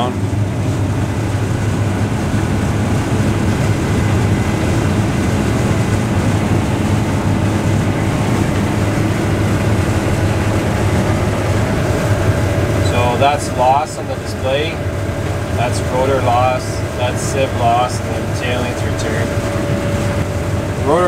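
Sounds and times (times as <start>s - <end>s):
combine harvester engine and threshing drone: 0.0s - 21.0s.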